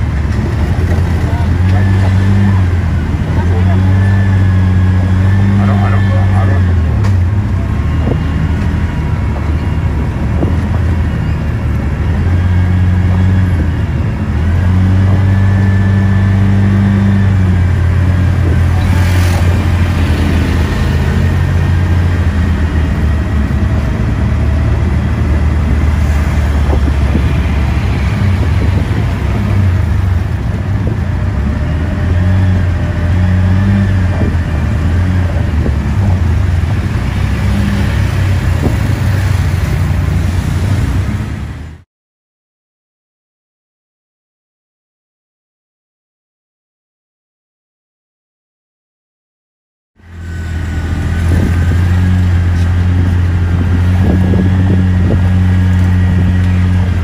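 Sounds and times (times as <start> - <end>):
vehicle engine drone: 0.0 - 41.8, 50.0 - 57.0
road and tyre noise: 0.0 - 41.9, 50.0 - 57.0.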